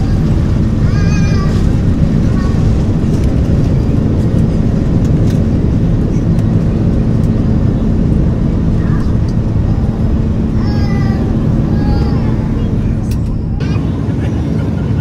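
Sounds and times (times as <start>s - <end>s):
airplane cabin engine rumble: 0.0s - 15.0s
steady low hum: 0.0s - 15.0s.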